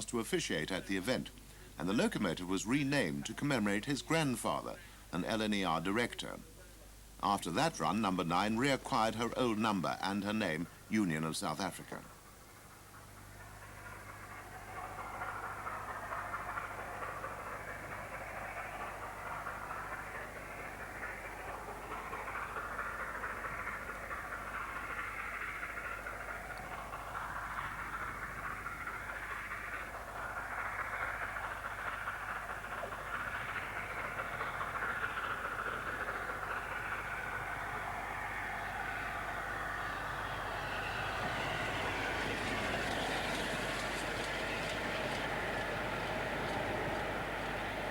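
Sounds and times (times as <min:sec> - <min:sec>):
steam locomotive rushing: 0:00.0 - 0:06.6, 0:07.2 - 0:47.9.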